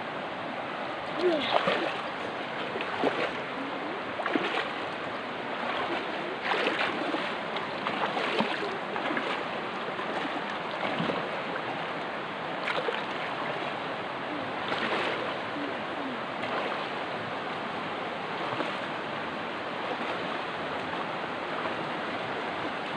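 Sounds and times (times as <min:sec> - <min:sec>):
river water rushing: 0:00.0 - 0:22.9
water splashes and trickles: 0:00.0 - 0:22.9.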